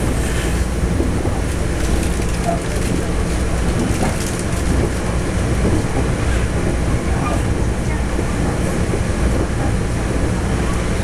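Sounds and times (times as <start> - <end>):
train rumbling inside car: 0.0 - 11.0.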